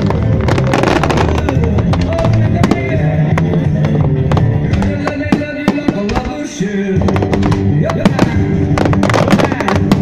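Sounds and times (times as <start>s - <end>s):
fireworks cracking and banging: 0.0s - 10.0s
music over loudspeakers: 0.0s - 10.0s.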